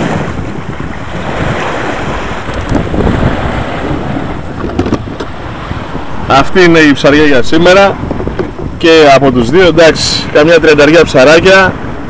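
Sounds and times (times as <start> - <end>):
sea waves on rocky shore: 0.0 - 12.0
wind buffeting microphone: 0.0 - 12.0.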